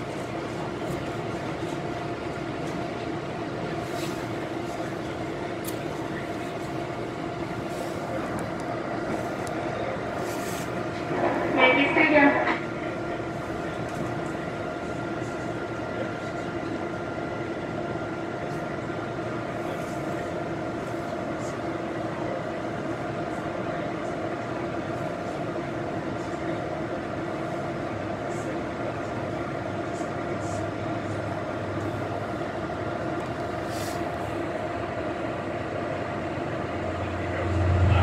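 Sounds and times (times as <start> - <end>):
constant hum: 0.0 - 38.0
train car rumble: 0.0 - 38.0.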